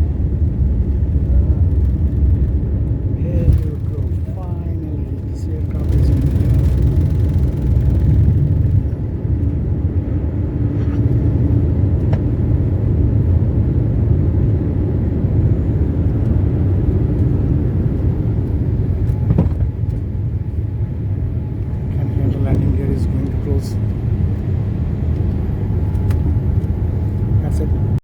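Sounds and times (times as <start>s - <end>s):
airliner engine rumble in cabin: 0.0s - 28.0s.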